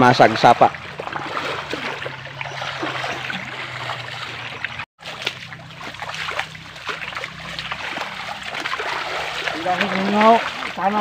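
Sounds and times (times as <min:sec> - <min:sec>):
creek water trickling and splashing: 0:00.0 - 0:11.0.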